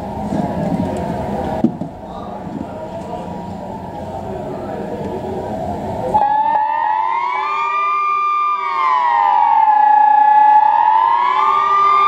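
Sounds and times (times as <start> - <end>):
general background noise: 0.0 - 12.0
sirens wailing: 0.0 - 12.0.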